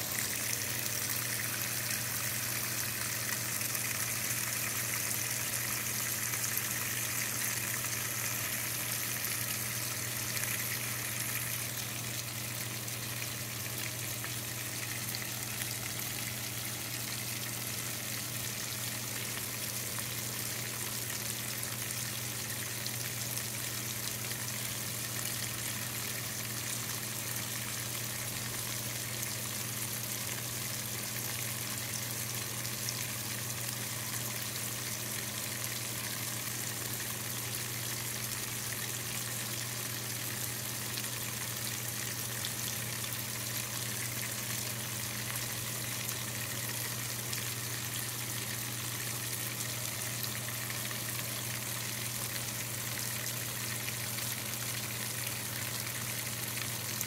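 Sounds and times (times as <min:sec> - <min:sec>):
low electrical hum: 0:00.0 - 0:57.0
water pouring into washing machine: 0:00.0 - 0:57.0.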